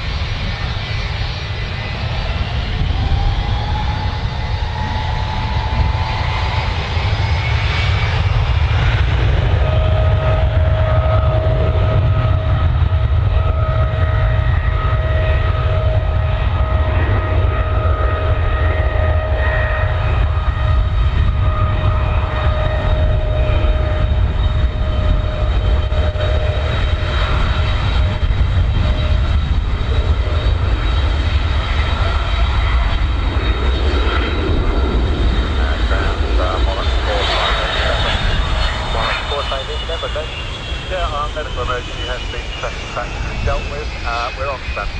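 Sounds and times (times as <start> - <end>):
high jet engine whine: 0.0 - 44.9
jet engine rumble: 0.0 - 44.9.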